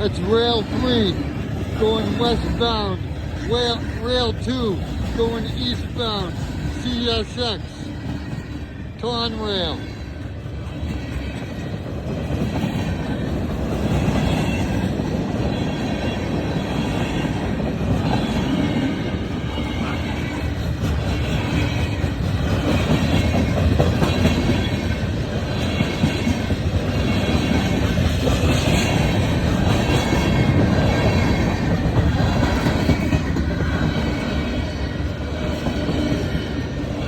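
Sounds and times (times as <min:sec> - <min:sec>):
clatter of train cars: 0:00.0 - 0:37.0
train wheels rumbling on rails: 0:00.0 - 0:37.0.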